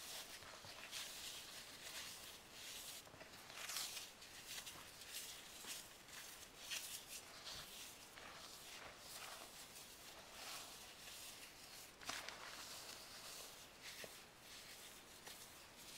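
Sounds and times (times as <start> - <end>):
hands crumbling dry foam: 0.0 - 15.9.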